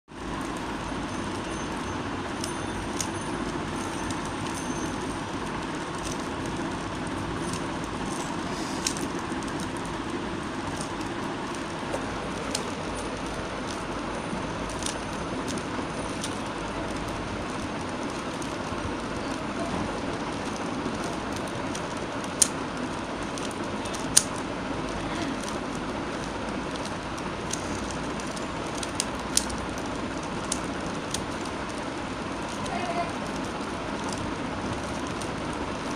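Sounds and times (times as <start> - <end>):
steady hiss and hum: 0.1 - 35.9
puzzle cube clicking: 1.3 - 5.1, 5.9 - 35.9.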